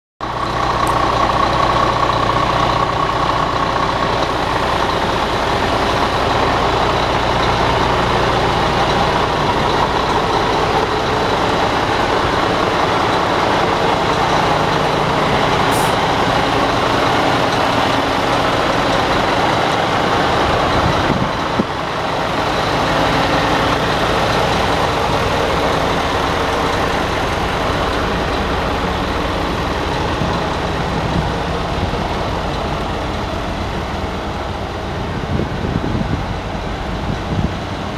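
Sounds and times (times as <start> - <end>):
diesel truck engine idling: 0.2 - 37.9.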